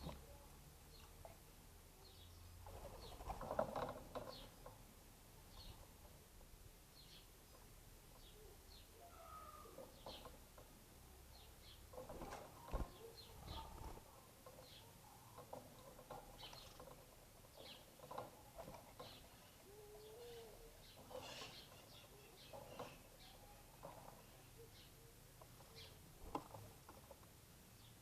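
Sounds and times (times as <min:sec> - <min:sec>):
small birds chirping: 0:00.0 - 0:28.0
birds pecking: 0:02.3 - 0:28.0.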